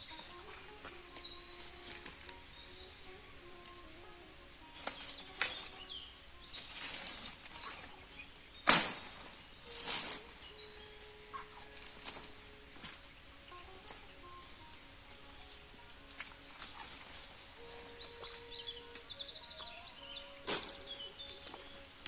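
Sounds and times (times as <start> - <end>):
birds chirping faintly: 0.0 - 22.0
plant stems rustling and crackling: 0.0 - 22.0.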